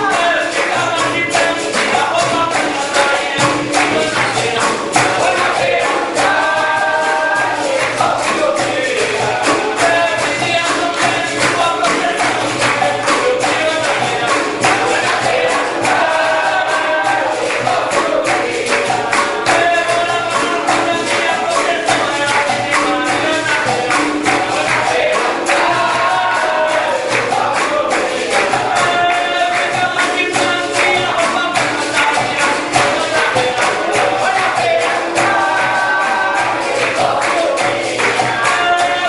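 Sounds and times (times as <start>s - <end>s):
group singing: 0.0s - 39.0s
hand clapping: 0.0s - 39.0s
hand drum: 0.0s - 39.0s.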